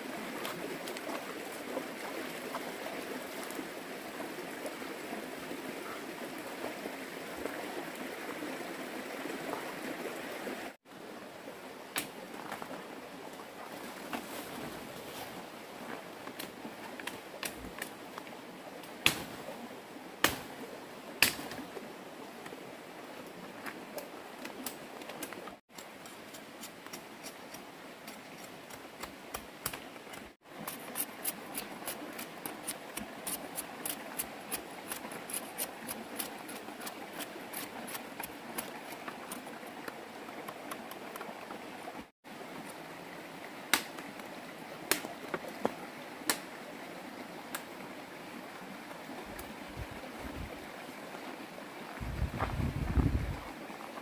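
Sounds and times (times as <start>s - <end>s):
running stream water: 0.0s - 54.0s.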